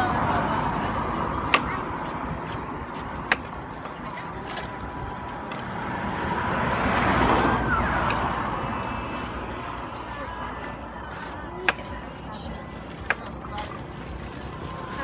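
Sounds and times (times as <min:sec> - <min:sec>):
street noise: 0:00.0 - 0:15.0
vehicle passing: 0:00.0 - 0:15.0.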